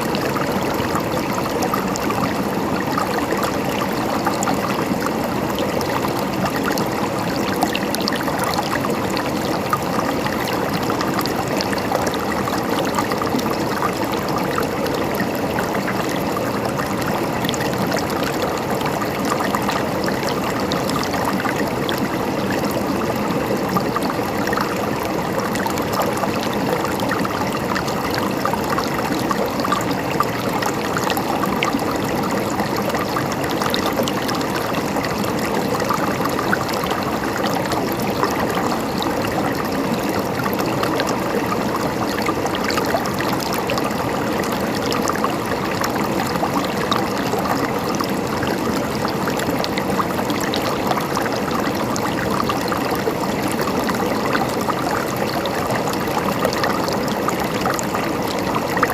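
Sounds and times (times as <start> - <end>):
running water gurgling: 0.0 - 58.9.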